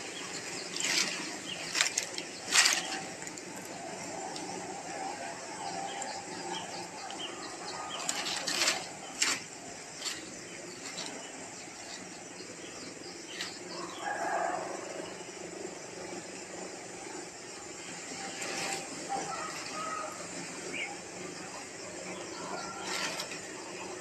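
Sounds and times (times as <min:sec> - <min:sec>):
dry fronds rustling: 0:00.0 - 0:15.1, 0:17.7 - 0:24.0
steady background noise: 0:00.0 - 0:24.0.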